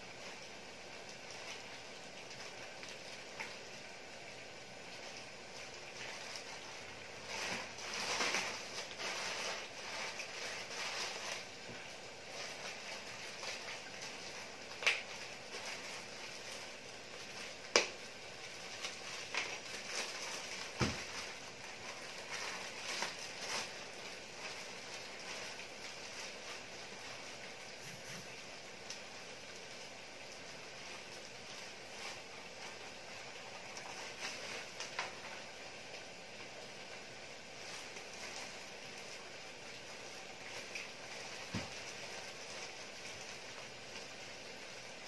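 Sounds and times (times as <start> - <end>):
stew sizzling and bubbling: 0.0 - 45.0.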